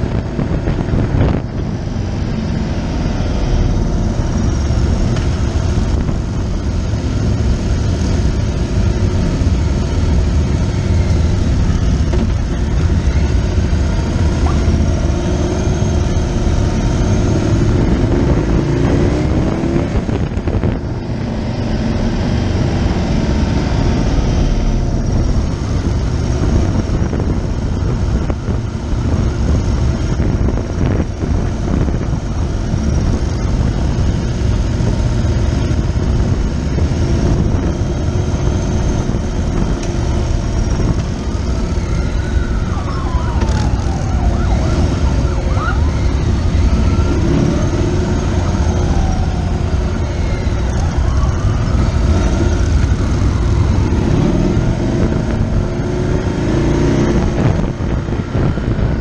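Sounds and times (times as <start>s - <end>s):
motorcycle engines running: 0.0s - 59.0s
road and wind noise: 0.0s - 59.0s
sirens wailing: 0.0s - 59.0s.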